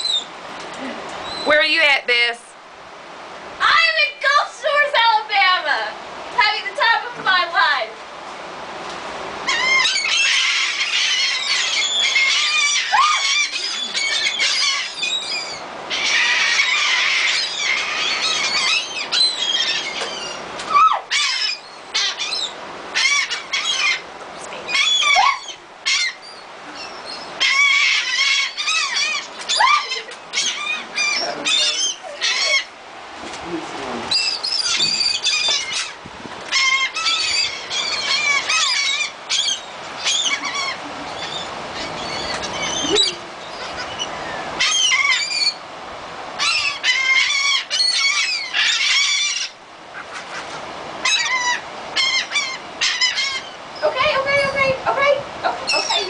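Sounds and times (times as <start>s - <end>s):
gulls calling: 0.0s - 2.4s, 9.3s - 56.0s.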